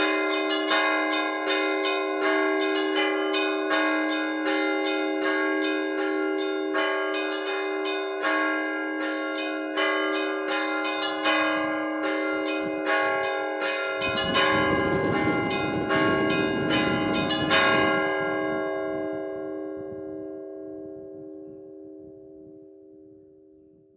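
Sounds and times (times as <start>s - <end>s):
large bells ringing: 0.0s - 23.2s
small church bells striking: 0.0s - 23.4s.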